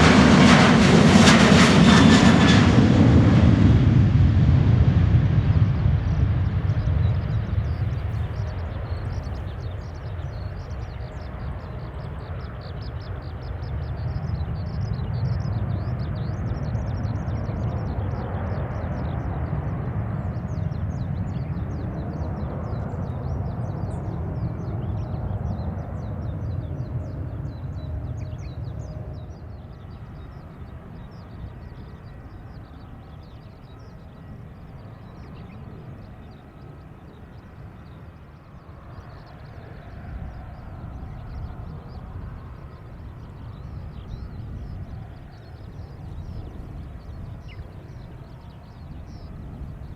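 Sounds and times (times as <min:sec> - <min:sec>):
jet engines rumbling: 0:00.0 - 0:49.9
small birds chirping: 0:04.6 - 0:49.9.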